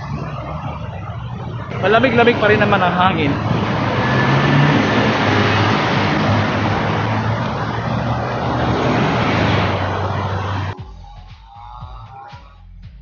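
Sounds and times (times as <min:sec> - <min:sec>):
cars passing: 0:00.0 - 0:10.8.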